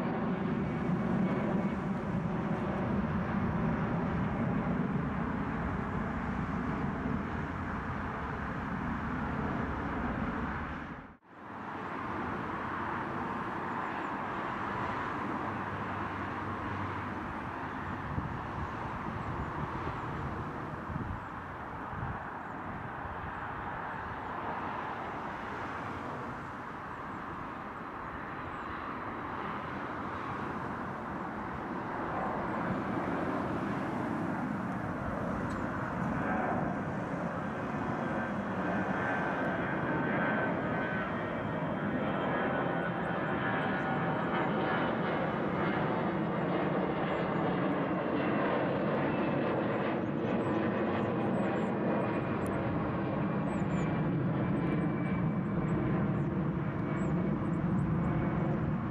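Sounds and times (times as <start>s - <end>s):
jet engines at climb thrust: 0.0s - 58.9s.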